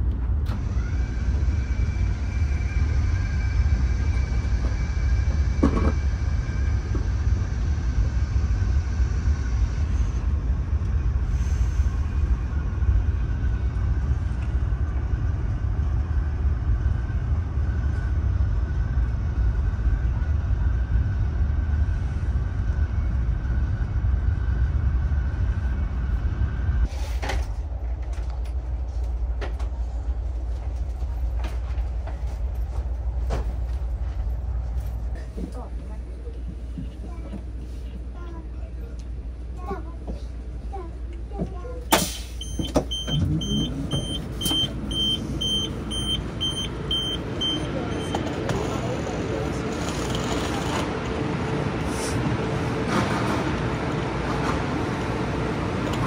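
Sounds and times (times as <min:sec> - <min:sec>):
train cabin low rumble: 0:00.0 - 0:56.0.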